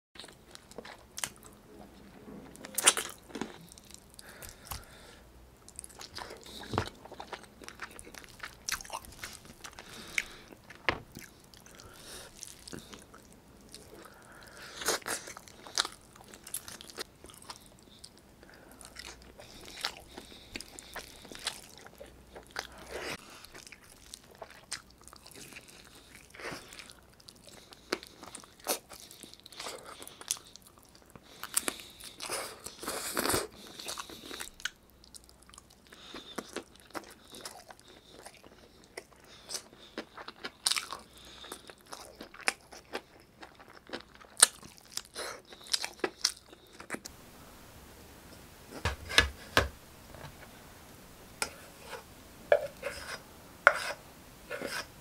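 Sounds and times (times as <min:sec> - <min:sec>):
person chewing food: 0:00.2 - 0:47.2.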